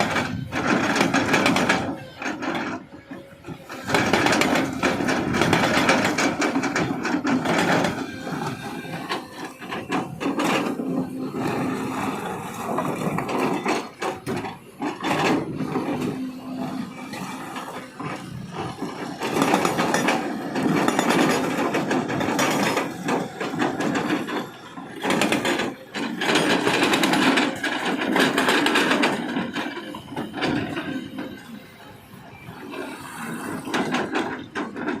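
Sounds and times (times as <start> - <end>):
hydraulic breaker pounding rock: 0.0 - 35.0.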